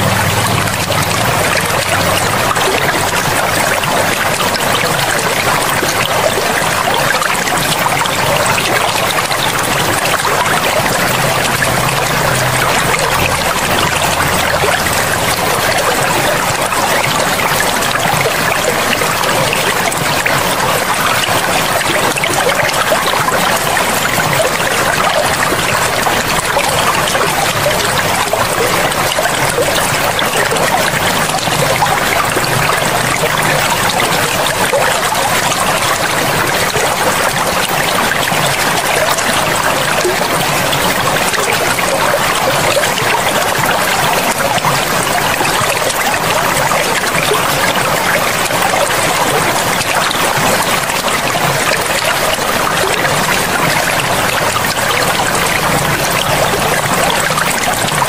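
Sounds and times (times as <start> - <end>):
river water flowing and splashing: 0.0 - 58.0.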